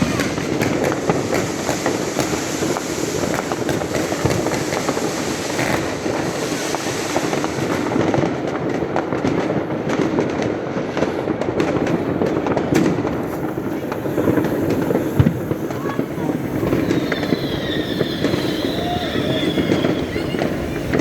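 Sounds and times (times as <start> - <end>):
fireworks and firecrackers banging: 0.0 - 21.0.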